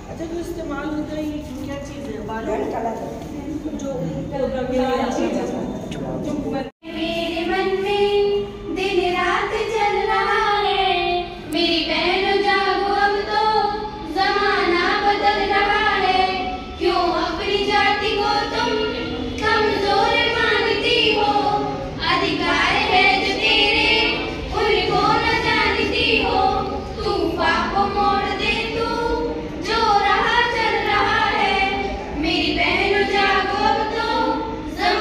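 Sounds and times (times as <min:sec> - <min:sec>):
girls singing together: 0:06.8 - 0:35.0.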